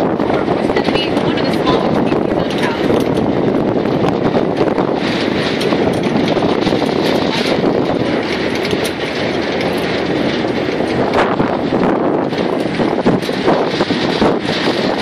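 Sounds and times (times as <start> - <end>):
loud vehicle engine running: 0.0 - 15.0
small rattles and clicks: 0.0 - 15.0.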